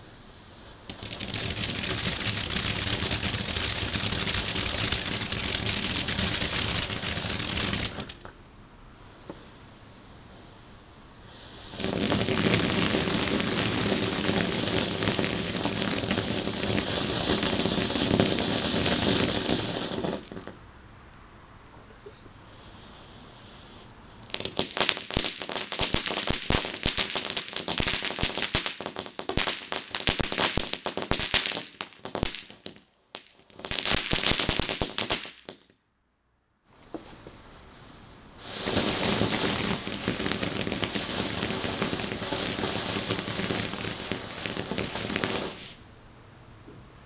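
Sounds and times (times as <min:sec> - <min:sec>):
firework fountain hissing: 0:00.0 - 0:08.3, 0:09.0 - 0:20.6, 0:22.4 - 0:35.6, 0:37.8 - 0:45.8
firework fountain crackling: 0:00.0 - 0:08.4, 0:10.4 - 0:20.6, 0:22.5 - 0:35.7, 0:38.0 - 0:45.8.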